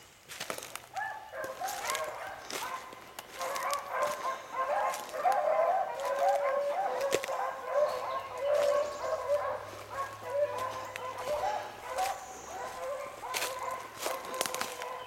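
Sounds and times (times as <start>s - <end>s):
hounds baying together: 0.9s - 15.0s.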